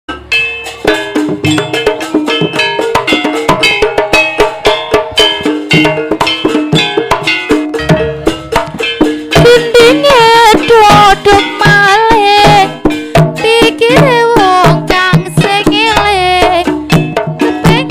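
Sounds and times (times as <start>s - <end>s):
fast drum strokes: 0.1s - 17.9s
pitched metal percussion: 0.1s - 17.9s
wavering bending melody: 0.1s - 17.9s.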